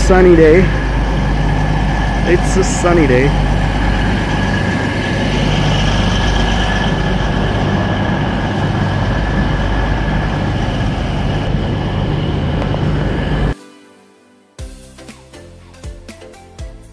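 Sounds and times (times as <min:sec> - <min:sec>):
diesel train engines idling: 0:00.0 - 0:13.6
high-pitched whine: 0:00.0 - 0:13.6.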